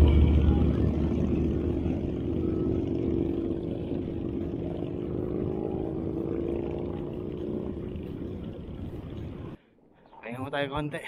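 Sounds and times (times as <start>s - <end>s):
low rumble: 0.0s - 9.6s
motorcycle engines droning: 0.0s - 9.6s.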